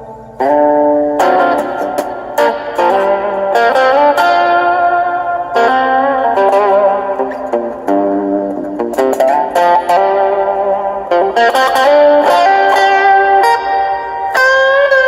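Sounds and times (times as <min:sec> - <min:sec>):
overdriven electric guitar: 0:00.0 - 0:15.0.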